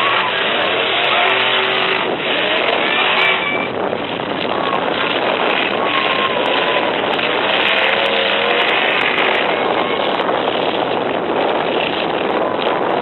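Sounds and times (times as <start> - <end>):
truck engines revving hard: 0.0 - 13.0.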